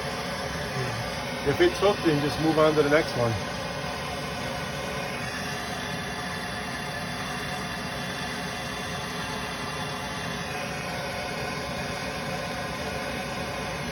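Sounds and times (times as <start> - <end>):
torch flame hissing: 0.0 - 13.9.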